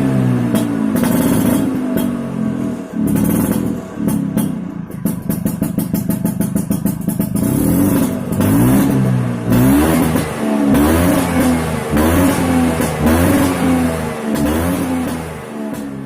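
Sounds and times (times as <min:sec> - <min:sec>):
scooter engine revving: 0:00.0 - 0:16.0.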